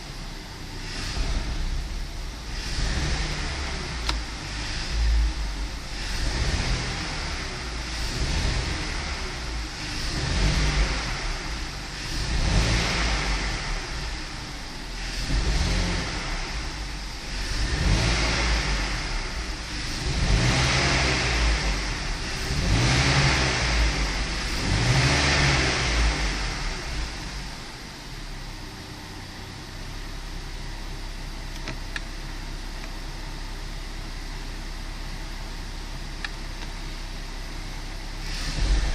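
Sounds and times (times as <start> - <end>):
car engine revving: 0.0 - 29.2, 36.1 - 38.9.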